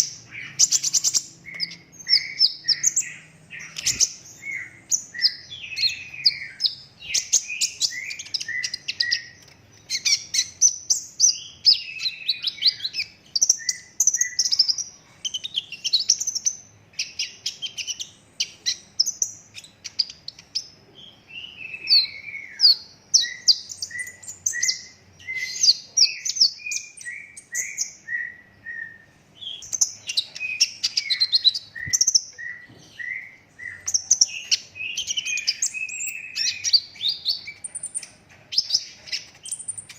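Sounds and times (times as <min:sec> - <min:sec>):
sunbird singing rapid chirps: 0:00.0 - 0:39.9.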